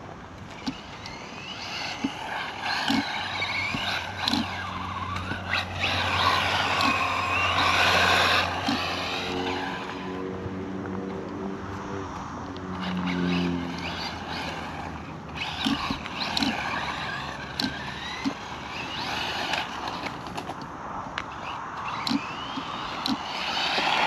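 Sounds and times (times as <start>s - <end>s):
toy car motor whining: 0.5s - 10.2s, 12.7s - 20.6s, 21.3s - 24.0s.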